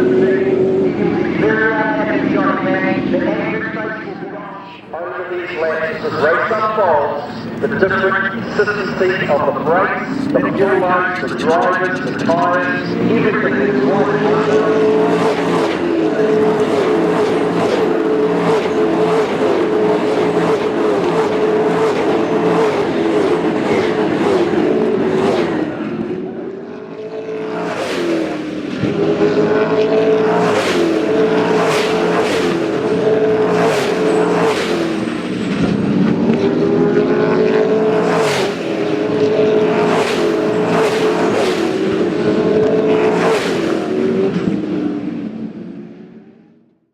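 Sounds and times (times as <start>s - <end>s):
race car engines revving: 0.0s - 46.7s.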